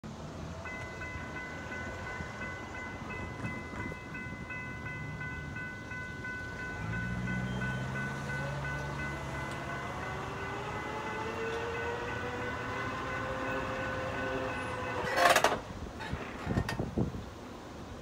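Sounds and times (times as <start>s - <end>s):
crossing warning bell ringing: 0.5s - 15.6s.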